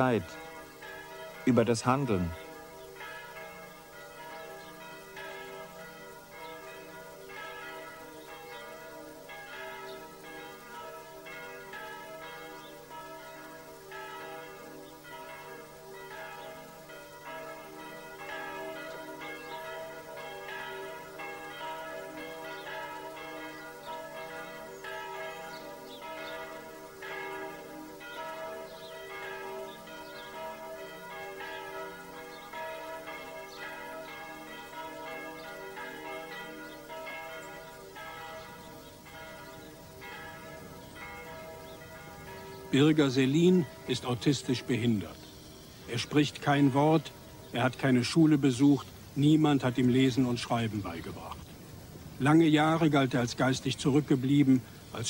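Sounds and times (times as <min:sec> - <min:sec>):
bells pealing: 0:00.0 - 0:55.0.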